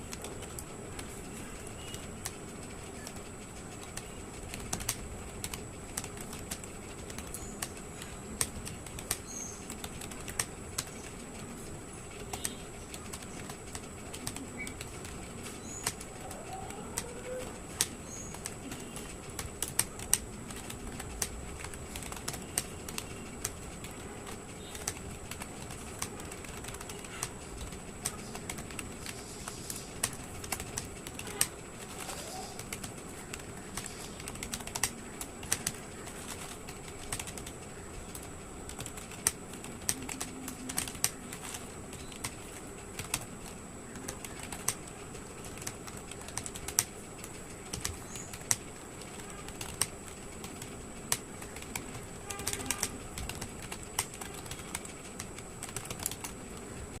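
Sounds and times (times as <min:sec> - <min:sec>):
keyboard typing clicks: 0:00.0 - 0:56.8.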